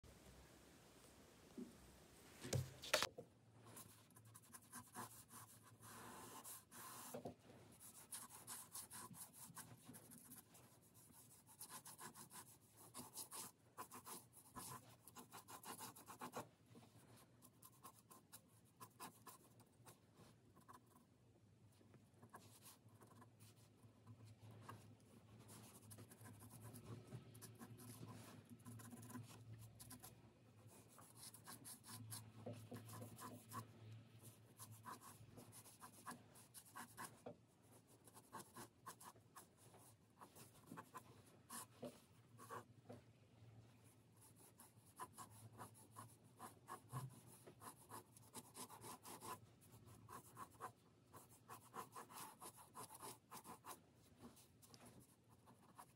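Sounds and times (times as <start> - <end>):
pencil scratching on paper: 3.7 - 21.0, 22.2 - 42.7, 44.2 - 55.9.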